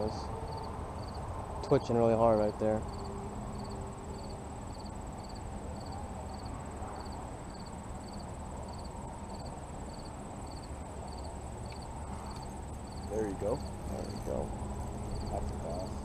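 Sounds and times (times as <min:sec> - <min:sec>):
cricket chirping: 0:00.0 - 0:16.0
low outdoor rumble: 0:00.0 - 0:16.0.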